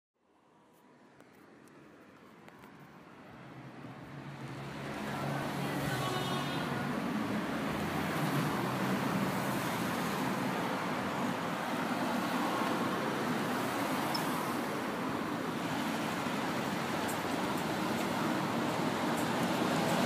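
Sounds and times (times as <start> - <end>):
distant city traffic hum: 0.2 - 20.0.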